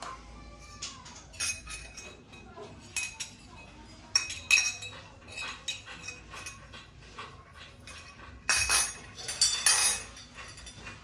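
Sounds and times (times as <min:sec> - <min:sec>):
brass utensils clinking: 0:01.1 - 0:11.0.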